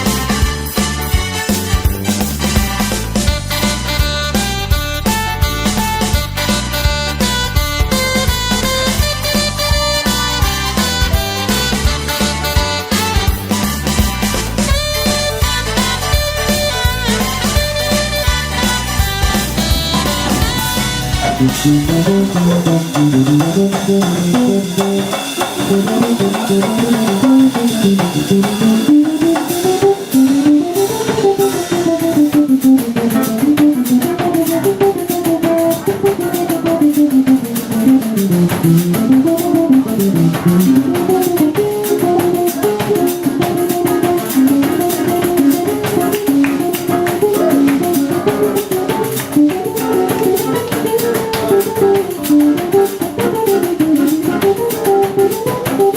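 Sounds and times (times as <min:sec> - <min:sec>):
guitar with drums and bass: 0:00.0 - 0:55.9.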